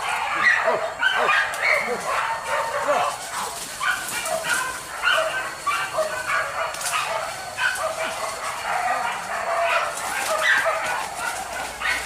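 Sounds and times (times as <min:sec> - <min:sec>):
dogs yelping and barking: 0:00.0 - 0:12.0.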